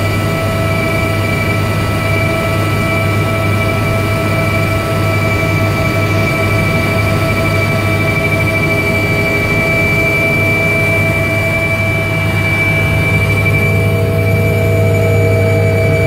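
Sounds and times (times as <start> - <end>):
constant high whine: 0.0 - 16.0
helicopter rotor and engine rumble: 0.0 - 16.0.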